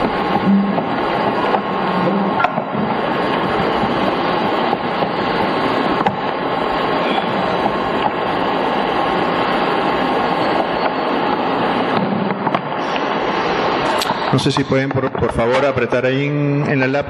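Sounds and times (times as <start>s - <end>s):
loud static hiss: 0.0s - 17.0s.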